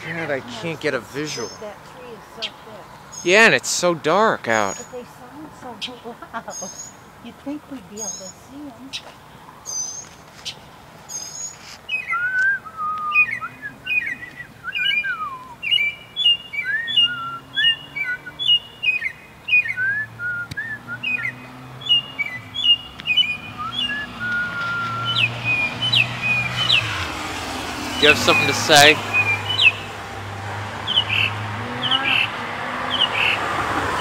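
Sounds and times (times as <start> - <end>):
bird singing: 0.0 - 34.0.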